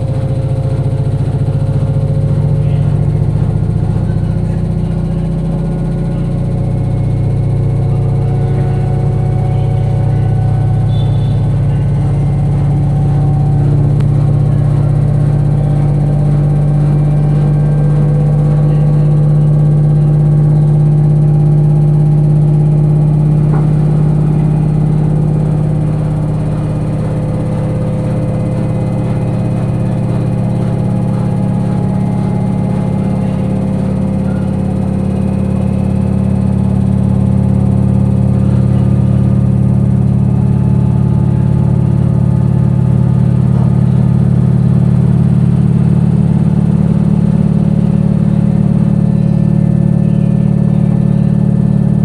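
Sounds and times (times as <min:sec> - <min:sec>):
washing machine drone: 0:00.0 - 0:52.0.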